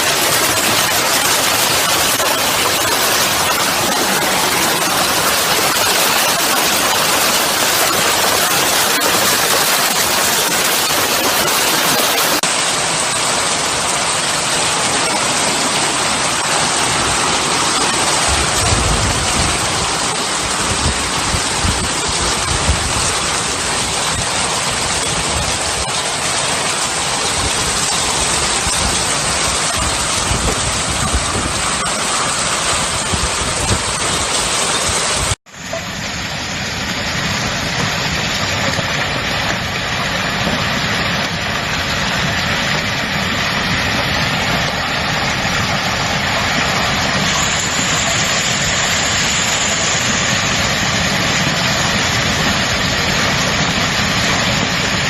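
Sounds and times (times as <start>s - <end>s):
heavy hail pelting: 0.0s - 55.0s.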